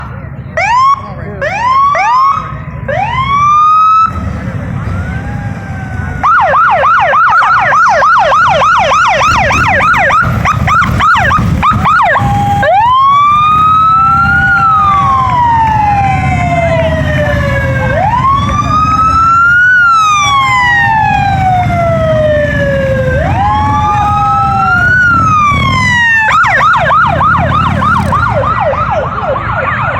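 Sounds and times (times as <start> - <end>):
motorcycle engines rumbling: 0.0 - 29.9
police siren yelp and wail: 0.6 - 29.9.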